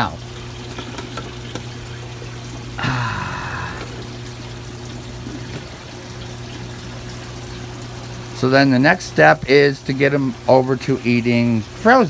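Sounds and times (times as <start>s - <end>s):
low pump hum: 0.0s - 12.0s
water trickling: 0.0s - 12.0s.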